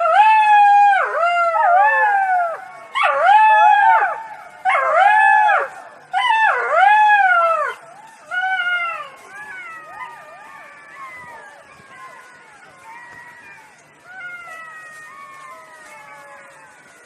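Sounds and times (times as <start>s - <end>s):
fox howling calls: 0.0s - 17.0s.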